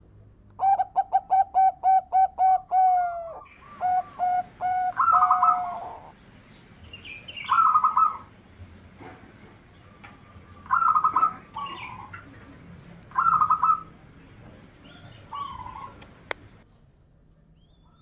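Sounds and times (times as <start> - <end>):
dove cooing: 0.6 - 6.2, 7.1 - 16.6.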